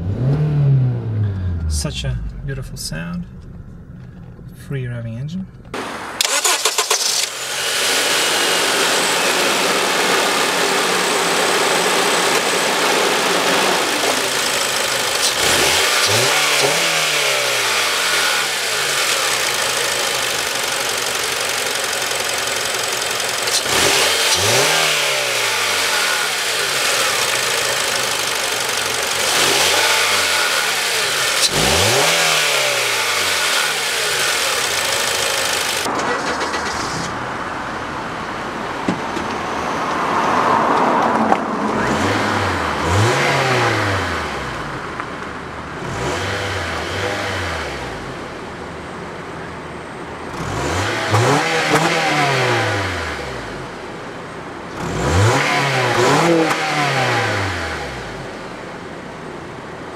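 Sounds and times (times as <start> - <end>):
car engine revving: 0.0 - 4.6, 5.7 - 59.5.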